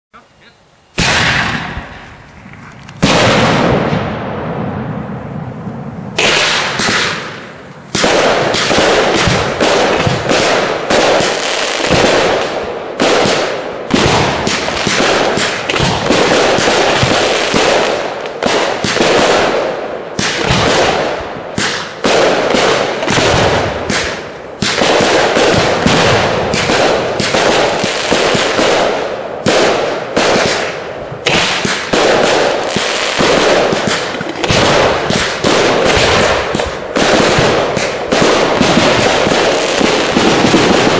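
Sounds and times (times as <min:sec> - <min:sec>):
fireworks bangs and crackle: 0:00.9 - 0:40.9.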